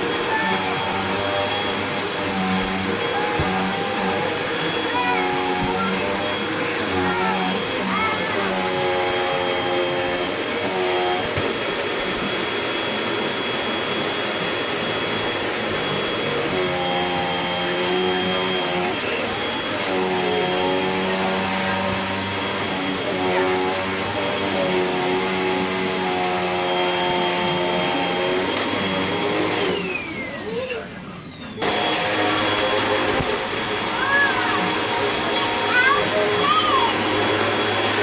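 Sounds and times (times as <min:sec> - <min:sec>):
vacuum cleaner whining: 0:00.0 - 0:38.0.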